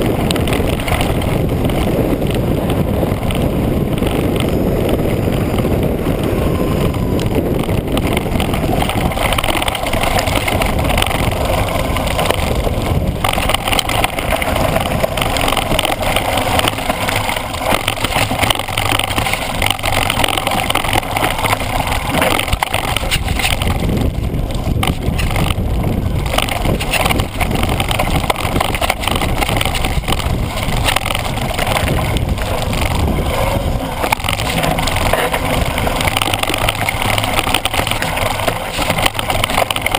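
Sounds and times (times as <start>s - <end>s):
bike knocks and rattles: 0.0s - 39.9s
bike tyres crunching over gravel: 0.0s - 39.9s
wind on microphone: 0.0s - 39.9s.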